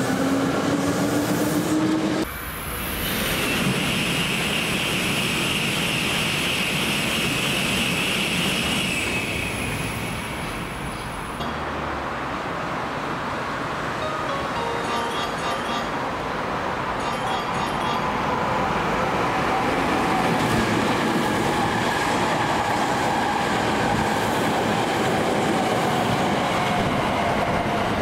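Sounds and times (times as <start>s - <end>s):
high-speed train roaring past: 0.0s - 28.0s.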